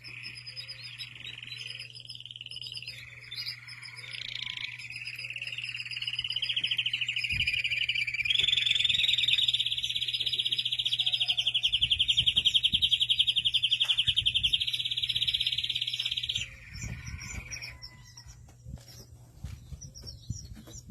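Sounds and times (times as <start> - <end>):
canary singing rolling trill: 0.0 - 20.9.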